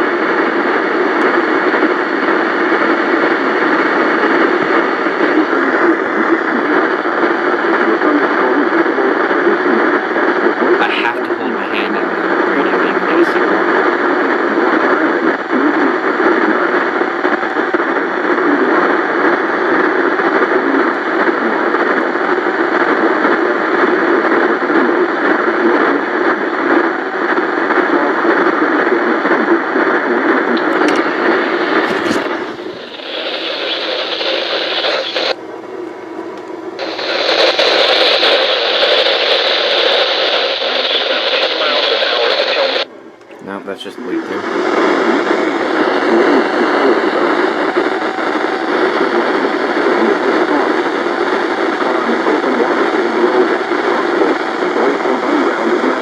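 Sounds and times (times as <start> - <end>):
radio static hiss: 0.0 - 35.4, 36.8 - 56.0.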